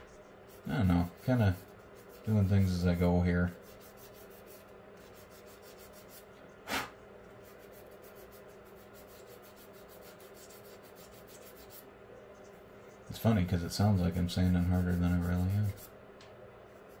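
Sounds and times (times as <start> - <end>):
sanding stick rubbing: 0.0 - 16.0
faint steady hum: 0.0 - 17.0.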